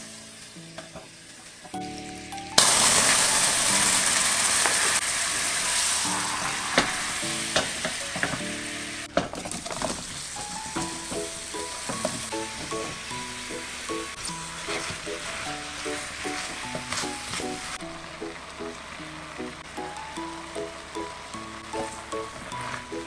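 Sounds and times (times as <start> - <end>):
sugar sizzling and bubbling in a pan: 0.0 - 23.0.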